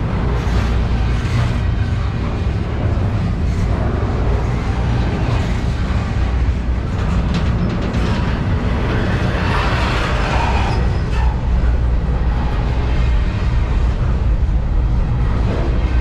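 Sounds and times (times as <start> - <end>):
freight train rumbling and rattling: 0.0 - 16.0.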